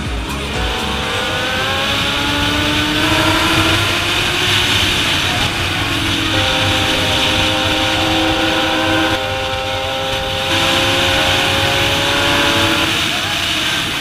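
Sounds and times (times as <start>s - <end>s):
motorcycle engine running: 0.0s - 14.0s
rush of riding wind: 0.0s - 14.0s.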